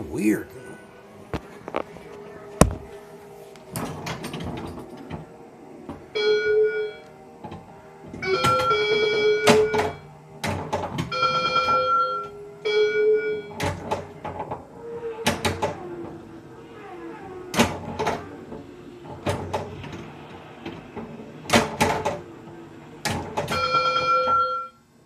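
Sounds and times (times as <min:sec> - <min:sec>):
pinball mechanical clicks and knocks: 0:03.7 - 0:24.8.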